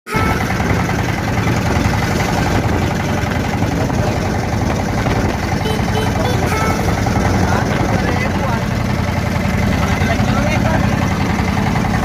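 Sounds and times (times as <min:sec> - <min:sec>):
engine running steadily: 0:00.1 - 0:12.0.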